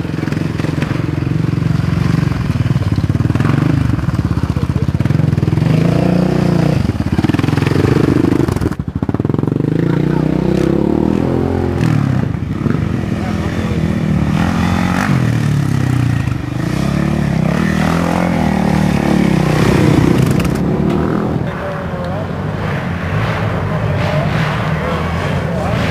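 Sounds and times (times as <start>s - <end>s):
racing quad engines revving: 0.0s - 25.9s.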